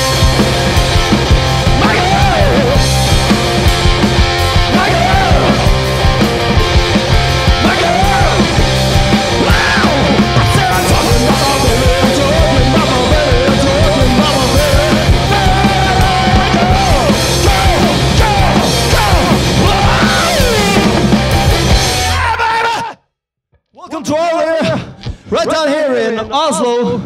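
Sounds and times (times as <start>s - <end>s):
bending lead guitar line: 0.0s - 22.2s
loud driving rock music: 0.0s - 22.7s.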